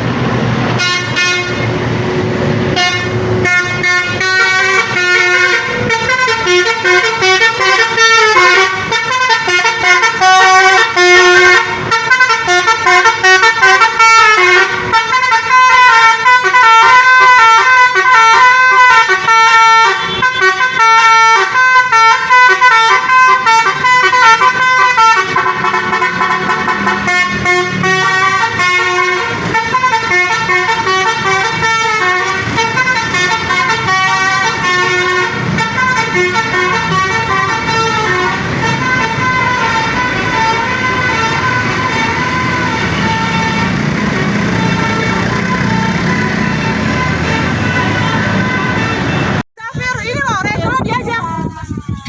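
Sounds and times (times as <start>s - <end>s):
multi-tone bus air horns: 0.2s - 52.0s.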